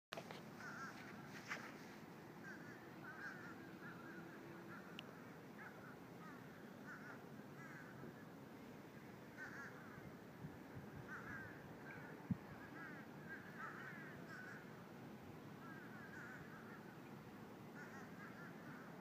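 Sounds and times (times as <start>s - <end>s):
birds calling faintly: 0.2s - 19.0s
low steady hiss: 0.2s - 19.0s.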